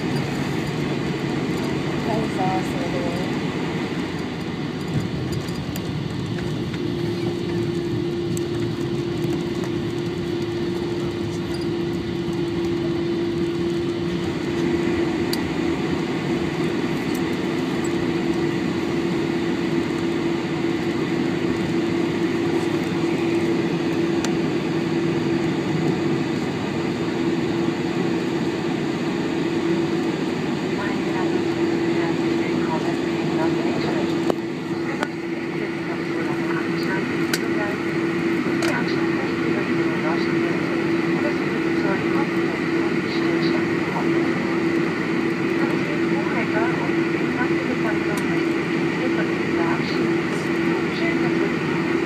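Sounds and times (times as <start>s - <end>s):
aircraft cabin rumble: 0.0s - 52.0s
steady low hum: 0.0s - 52.0s.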